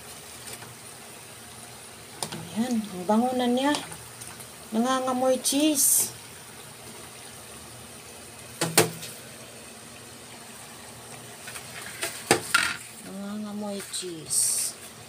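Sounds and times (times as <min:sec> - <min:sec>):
spring rolls sizzling in oil: 0:00.0 - 0:15.0.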